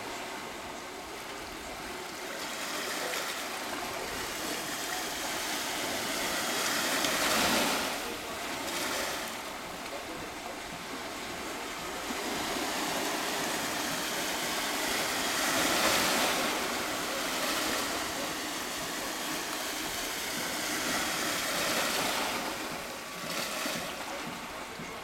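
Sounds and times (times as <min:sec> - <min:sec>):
small waves lapping at shore: 0:00.0 - 0:25.0.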